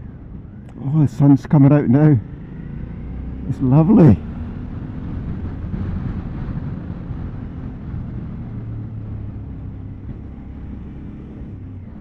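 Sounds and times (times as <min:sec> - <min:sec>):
road and wind noise: 0:00.0 - 0:12.0
motorcycle engine running: 0:02.2 - 0:12.0.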